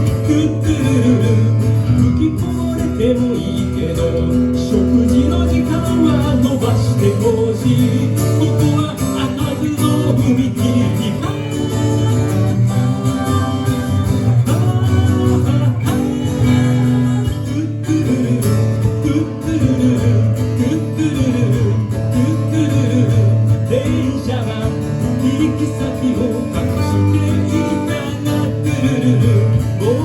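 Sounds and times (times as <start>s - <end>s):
acoustic guitar: 0.0s - 30.0s
live band playing: 0.0s - 30.0s.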